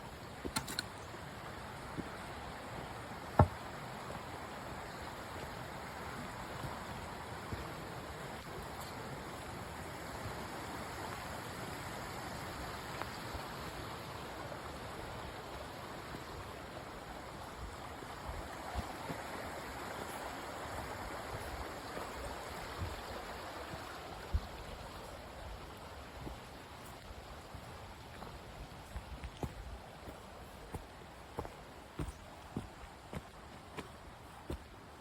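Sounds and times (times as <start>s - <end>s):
creek rushing: 0.0s - 35.0s.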